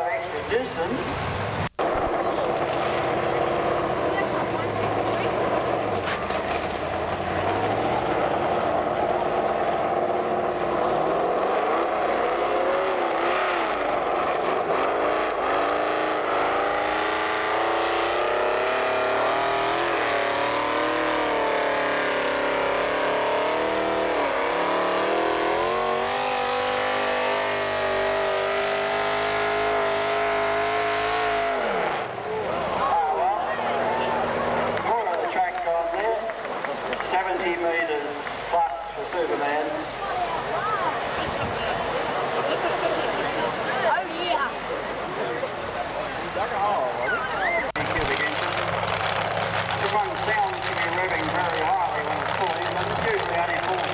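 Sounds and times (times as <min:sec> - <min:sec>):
tractor engine at full throttle: 0:00.0 - 0:53.9.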